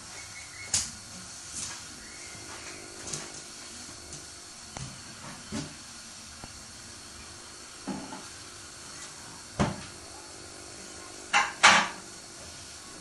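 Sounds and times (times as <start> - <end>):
washing machine drum hissing: 0.0 - 13.0.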